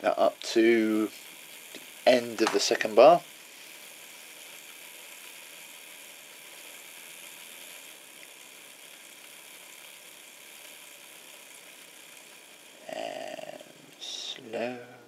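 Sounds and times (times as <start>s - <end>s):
model locomotive motor running: 0.0s - 15.0s.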